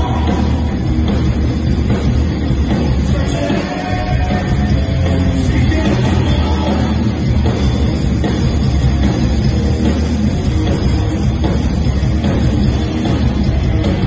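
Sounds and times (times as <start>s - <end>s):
drum kit: 0.0s - 14.0s
electric guitars: 0.0s - 14.0s.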